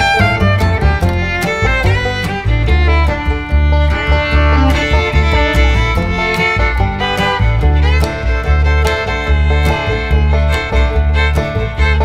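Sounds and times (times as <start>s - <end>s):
country music: 0.0s - 12.0s
fiddle lead: 0.0s - 12.0s.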